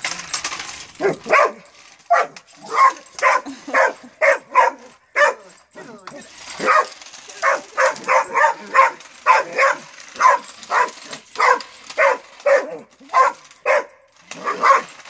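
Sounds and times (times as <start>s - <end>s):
dog barking: 1.0s - 5.4s, 6.6s - 14.9s.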